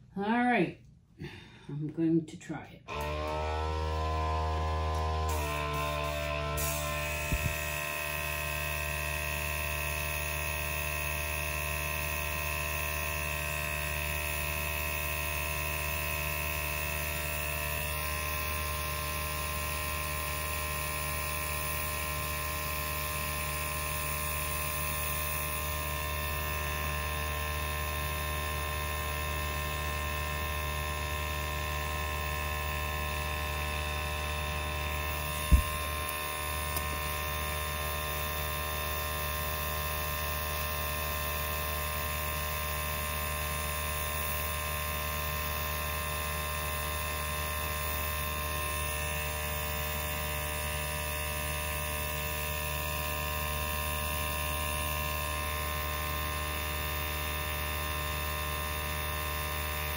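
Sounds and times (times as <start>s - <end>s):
airbrush compressor humming: 2.9s - 59.9s.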